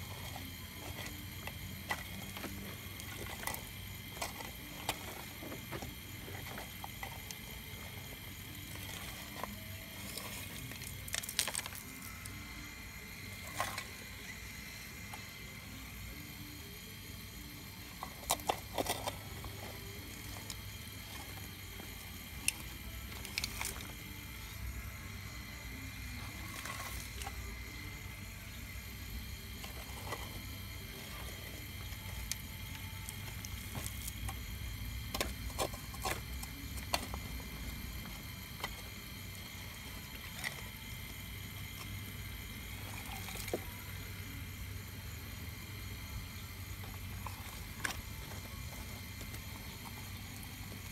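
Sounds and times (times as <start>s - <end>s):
high motor whine: 0.0s - 50.9s.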